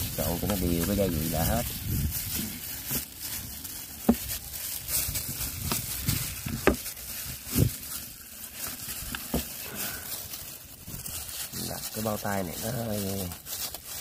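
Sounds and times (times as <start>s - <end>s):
hands kneading wet paste: 0.0s - 14.0s.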